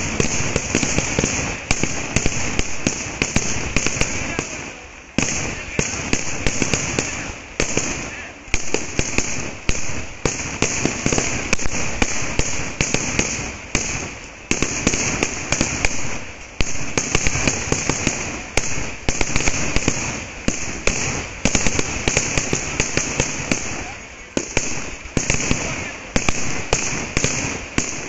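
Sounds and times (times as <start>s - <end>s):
fireworks bangs: 0.0s - 28.0s
fireworks crackle: 0.0s - 28.0s.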